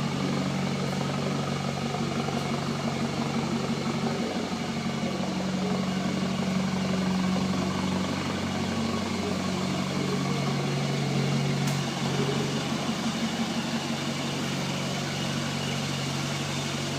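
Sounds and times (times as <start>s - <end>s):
pickup engine idling: 0.0s - 16.9s.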